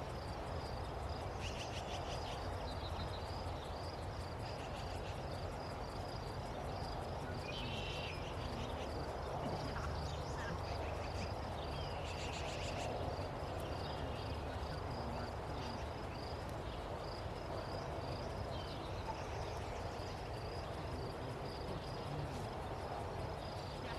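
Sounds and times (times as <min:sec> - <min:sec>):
insect chirping: 0:00.0 - 0:23.9.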